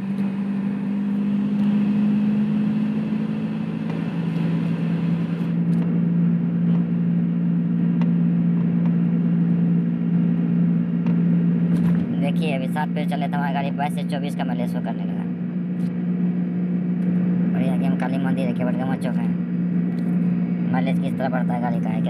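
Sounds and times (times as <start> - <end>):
car engine droning: 0.0 - 22.0.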